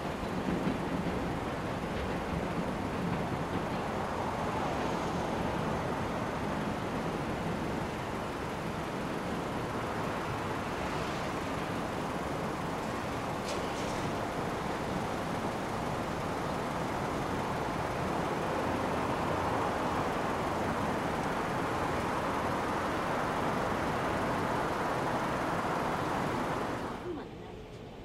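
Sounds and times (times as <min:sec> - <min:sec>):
freight wagons rolling on rails: 0:00.0 - 0:28.0.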